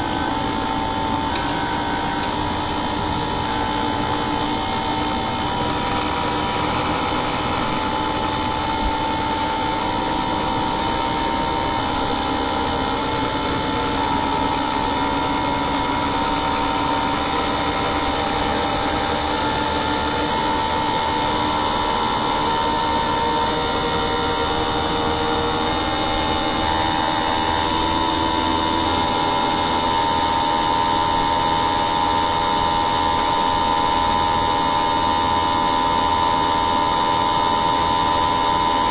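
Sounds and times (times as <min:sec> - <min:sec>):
air conditioner running with whine: 0:00.0 - 0:38.9.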